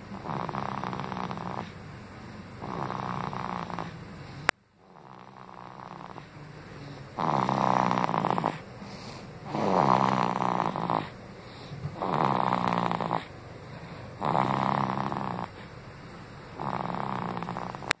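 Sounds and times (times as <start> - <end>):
baby snoring: 0.0 - 1.8, 2.6 - 15.8, 16.4 - 18.0.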